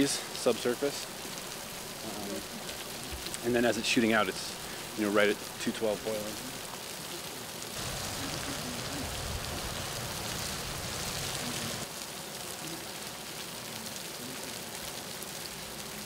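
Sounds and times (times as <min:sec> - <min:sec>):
water jets spraying and splashing: 0:00.0 - 0:16.0.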